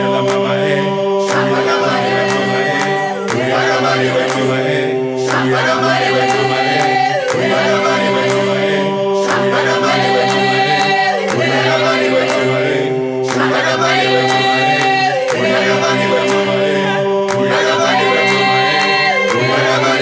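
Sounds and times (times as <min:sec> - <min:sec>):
group singing a cappella: 0:00.0 - 0:20.0.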